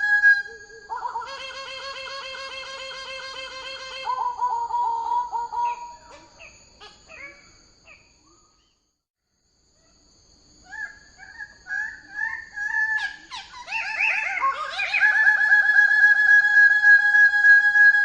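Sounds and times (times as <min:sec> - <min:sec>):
bird calling in repeated notes: 0:00.0 - 0:08.8, 0:10.6 - 0:18.0.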